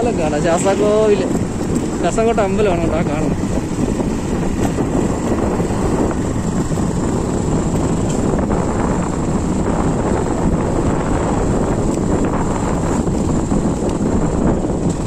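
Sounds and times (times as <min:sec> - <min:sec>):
road and engine noise: 0:00.0 - 0:15.0
wind buffeting microphone: 0:00.0 - 0:15.0.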